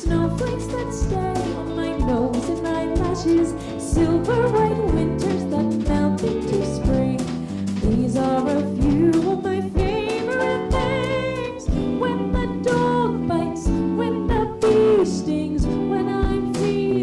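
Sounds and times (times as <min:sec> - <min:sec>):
jazz combo playing: 0:00.0 - 0:17.0
person singing: 0:00.0 - 0:17.0.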